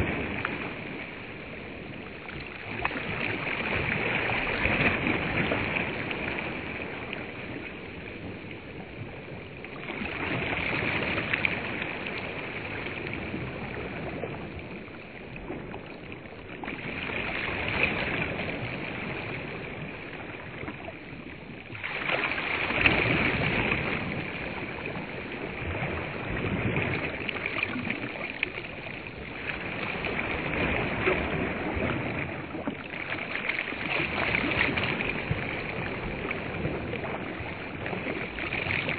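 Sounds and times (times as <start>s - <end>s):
waves washing onto shore: 0.0s - 38.9s.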